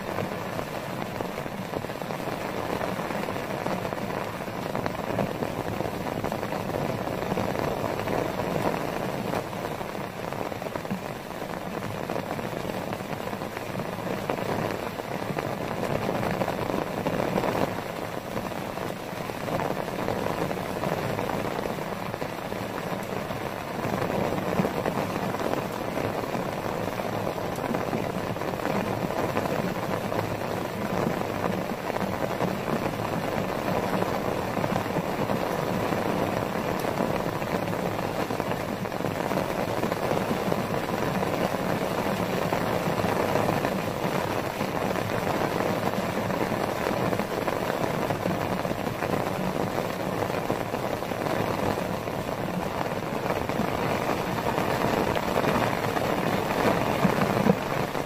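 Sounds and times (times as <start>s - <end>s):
heavy rain on a tarp: 0.0s - 58.0s.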